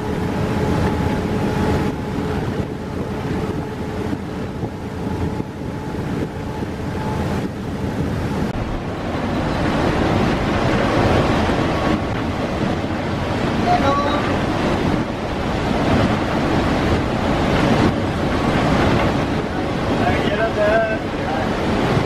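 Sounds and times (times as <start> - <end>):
locomotive engine and wheels rumbling: 0.0 - 22.0
wind noise on microphone: 0.0 - 22.0.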